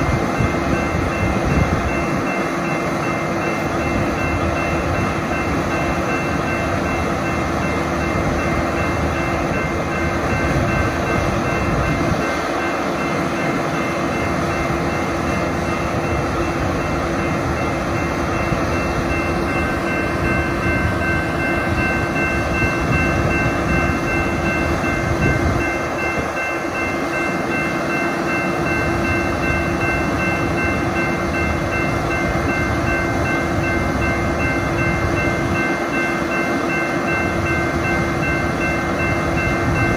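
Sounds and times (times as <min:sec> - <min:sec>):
crossing bell ringing: 0:00.0 - 0:39.9.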